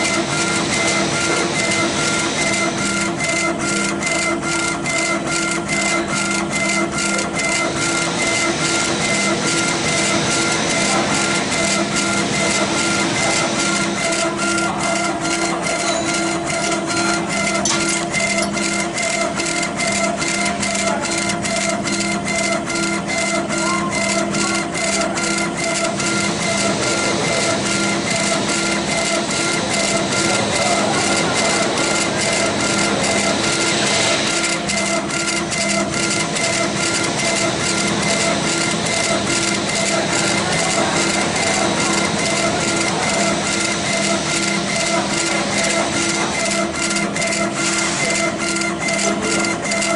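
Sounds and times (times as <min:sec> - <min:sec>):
drive motors whining: 0:00.0 - 0:49.9.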